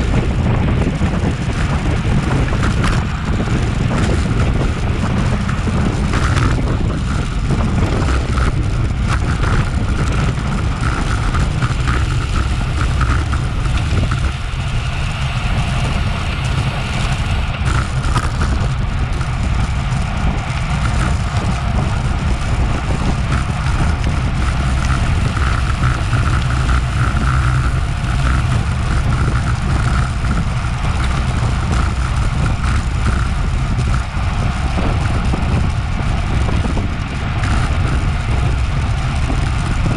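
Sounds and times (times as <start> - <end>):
road and tyre noise: 0.0 - 39.9
wind rush over microphone: 0.0 - 39.9.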